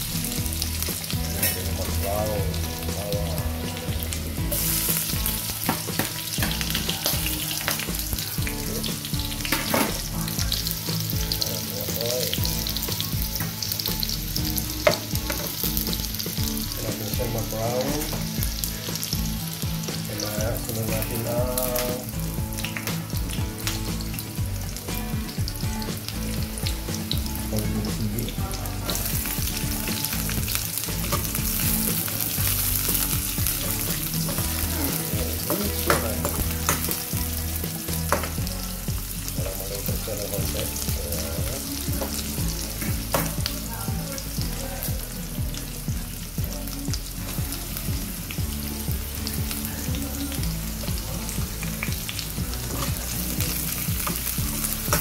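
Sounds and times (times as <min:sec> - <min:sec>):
garlic sizzling in hot oil: 0:00.0 - 0:55.0.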